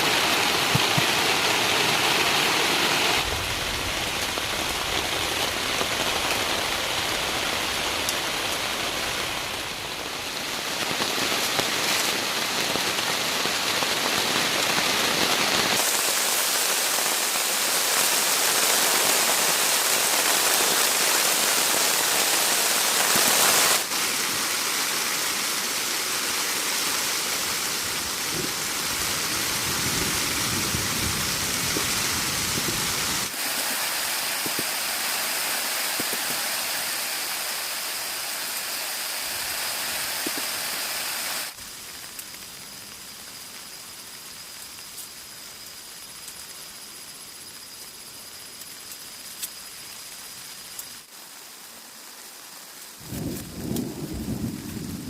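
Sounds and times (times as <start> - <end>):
hiss of running water: 0.0 - 55.0.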